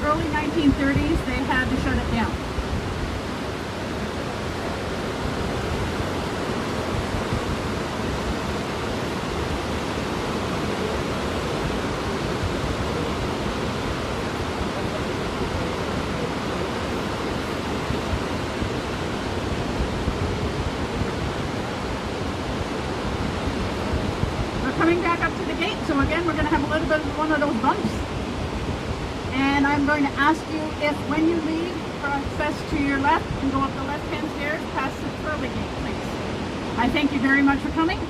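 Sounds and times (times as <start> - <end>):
rushing river rapids: 0.0 - 38.0.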